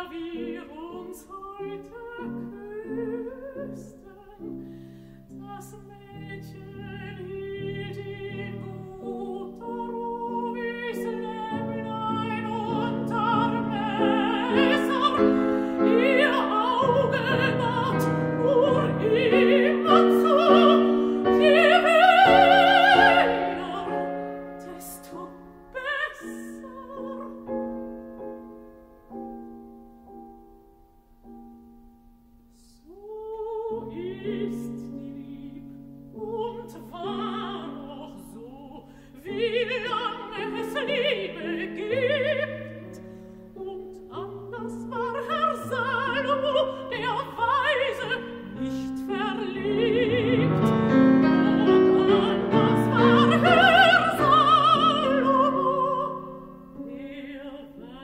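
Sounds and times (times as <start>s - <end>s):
woman singing with vibrato: 0.0s - 28.1s, 32.6s - 58.0s
piano accompaniment: 0.0s - 58.0s.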